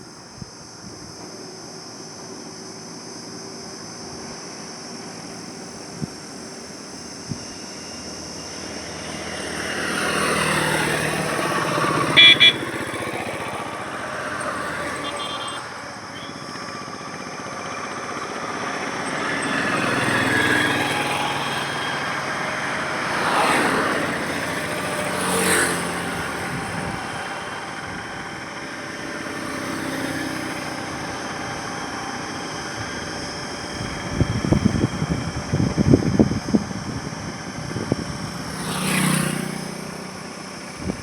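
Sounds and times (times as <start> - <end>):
vehicles passing: 4.4 - 41.0.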